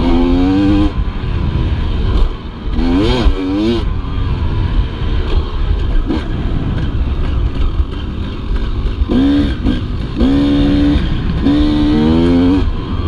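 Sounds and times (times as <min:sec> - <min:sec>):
dirt bike engine: 0:00.0 - 0:13.0
wind rumble on microphone: 0:00.0 - 0:13.0.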